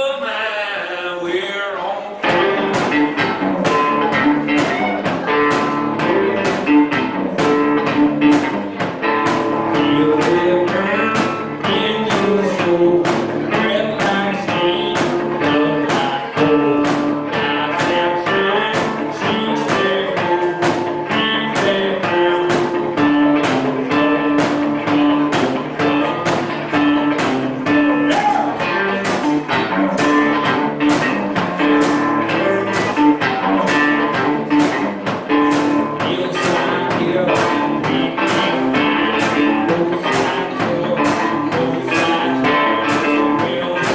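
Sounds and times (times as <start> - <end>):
live guitar song strummed: 2.2 - 43.9.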